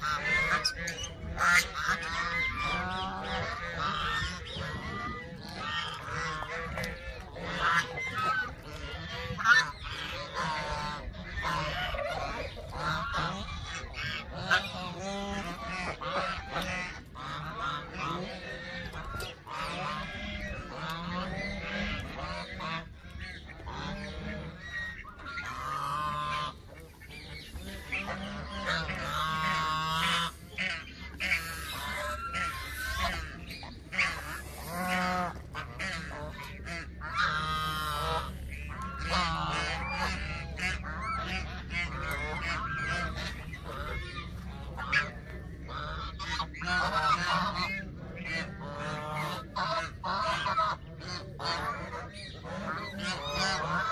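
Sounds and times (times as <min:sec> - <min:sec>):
geese honking: 0:00.0 - 0:53.9
steady low hum: 0:00.0 - 0:53.9.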